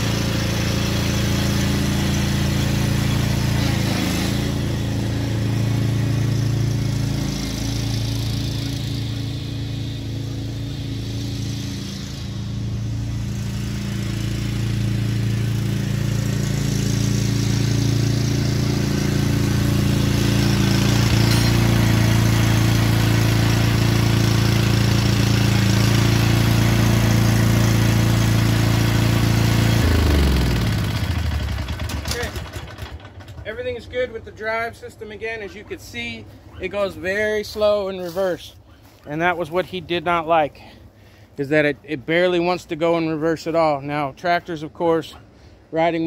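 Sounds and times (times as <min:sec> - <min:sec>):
riding mower engine running: 0:00.0 - 0:46.0.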